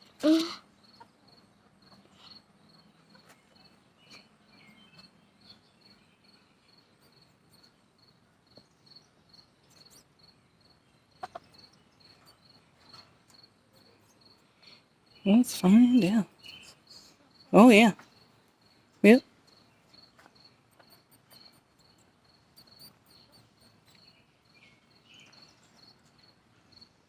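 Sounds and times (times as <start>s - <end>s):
cricket chirping: 0.8s - 18.8s, 19.4s - 27.0s.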